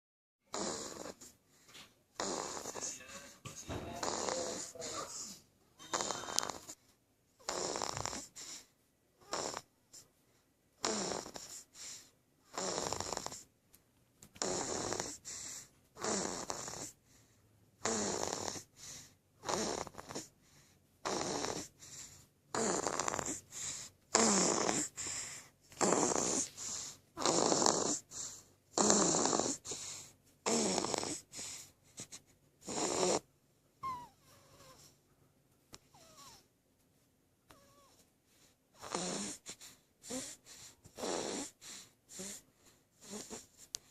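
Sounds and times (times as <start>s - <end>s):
baby snoring: 0.5s - 10.1s, 10.8s - 13.5s, 14.4s - 35.0s, 35.8s - 36.5s, 37.5s - 43.9s.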